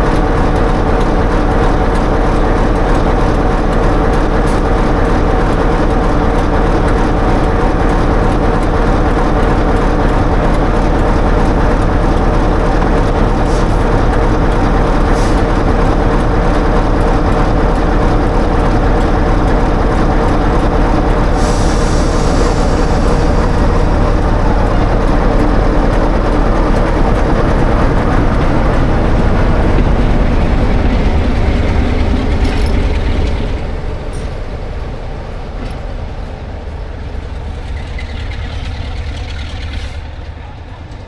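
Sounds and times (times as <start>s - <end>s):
diesel train passing: 0.0s - 41.0s.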